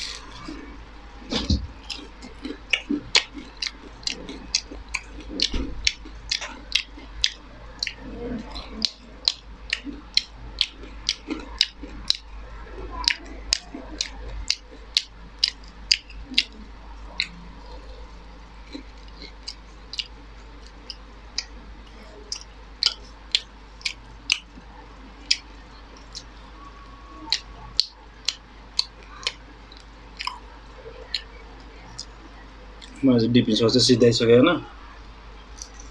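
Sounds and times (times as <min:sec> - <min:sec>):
mouth chewing and crunching: 0:00.0 - 0:33.0, 0:35.4 - 0:35.9.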